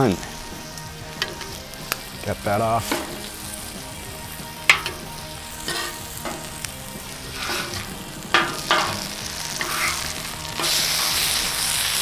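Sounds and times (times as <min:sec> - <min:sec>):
food sizzling on a griddle: 0:00.0 - 0:12.0
metal utensils clinking: 0:01.1 - 0:01.8, 0:02.6 - 0:12.0.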